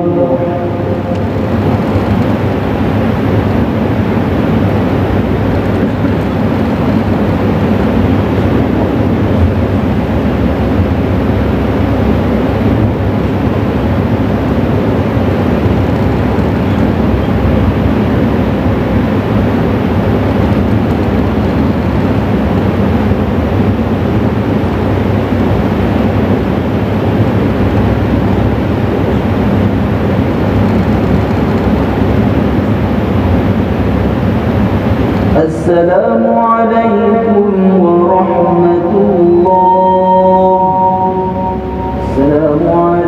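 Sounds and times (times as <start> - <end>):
faint hum: 0.0 - 43.0
loud low rumbling: 0.0 - 43.0.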